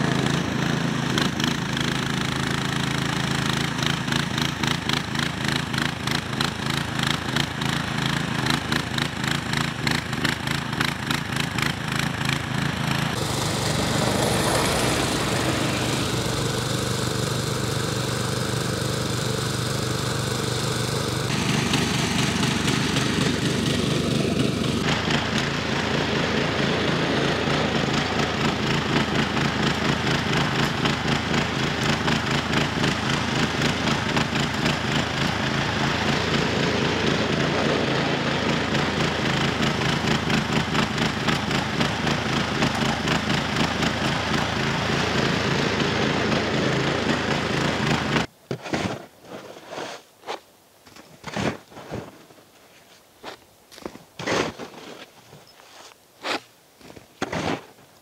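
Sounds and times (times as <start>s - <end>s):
snowblower engine running: 0.0s - 48.3s.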